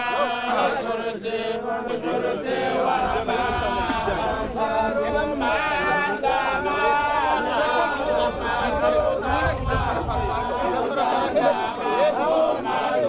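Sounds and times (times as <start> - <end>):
crowd of men chanting: 0.0 - 13.0.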